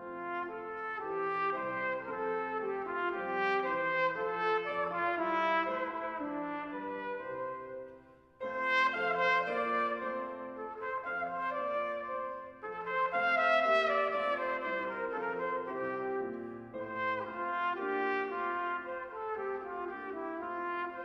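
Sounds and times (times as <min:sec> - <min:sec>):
solo trumpet melody: 0:00.0 - 0:21.0.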